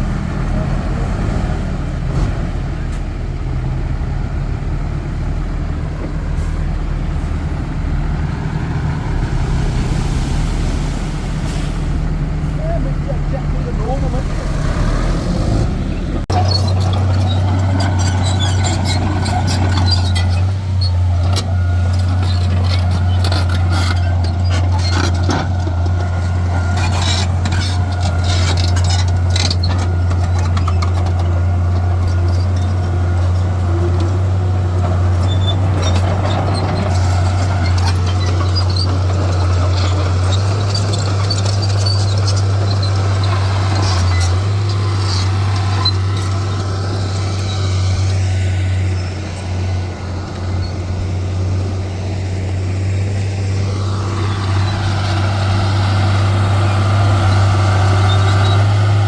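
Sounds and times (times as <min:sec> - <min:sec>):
diesel machinery droning: 0:00.0 - 0:59.0.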